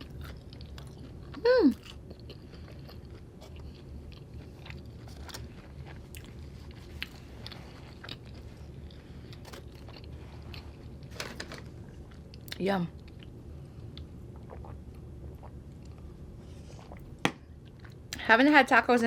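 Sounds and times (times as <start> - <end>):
wet chewing with crunches: 0.0 - 11.1, 12.0 - 18.2.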